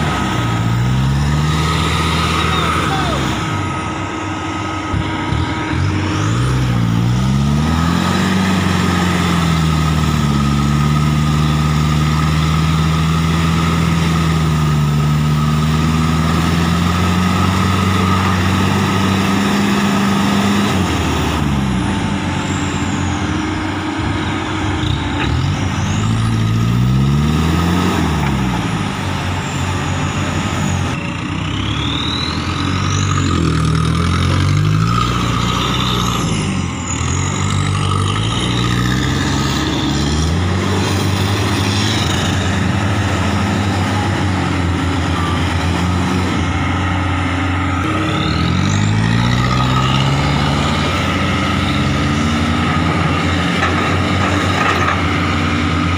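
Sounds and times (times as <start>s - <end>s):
heavy diesel engines revving: 0.0s - 55.9s.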